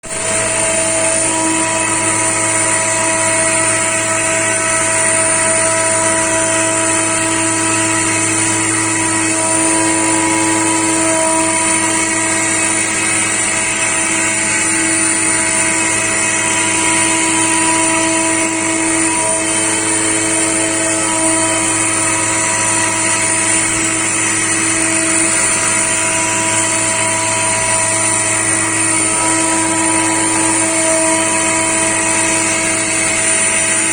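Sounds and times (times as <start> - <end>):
milling cutting noise: 0.0 - 33.9
milling machine spindle whine: 0.0 - 33.9.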